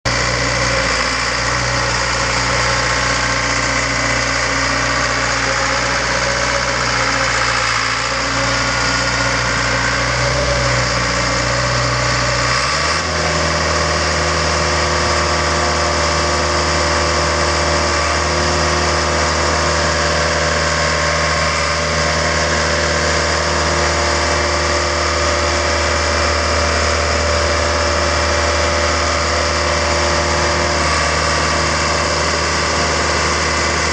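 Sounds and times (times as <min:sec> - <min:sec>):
compactor diesel engine running: 0:00.0 - 0:33.9.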